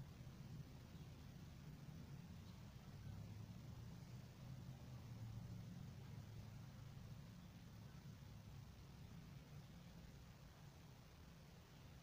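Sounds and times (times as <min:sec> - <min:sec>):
faint low hum: 0:00.0 - 0:12.0
light hiss: 0:00.0 - 0:12.0.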